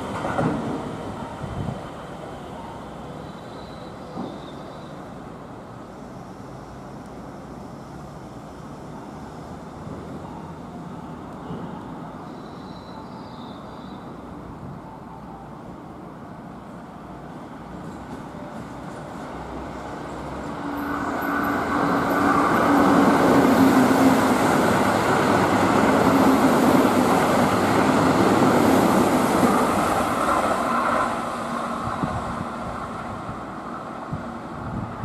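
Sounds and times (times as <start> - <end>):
electric train running past: 0.0 - 35.0.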